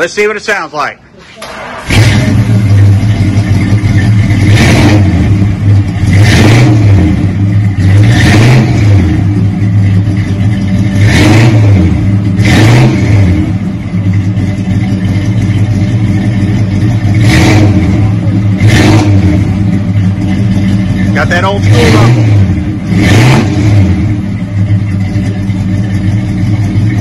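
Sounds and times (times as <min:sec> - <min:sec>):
car engine idling: 0:00.0 - 0:27.0
engine revving: 0:01.4 - 0:27.0.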